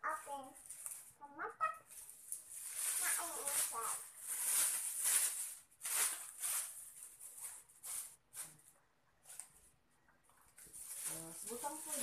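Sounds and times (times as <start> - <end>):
plastic bag and wrappers crinkling: 0.0 - 9.7, 10.3 - 12.0.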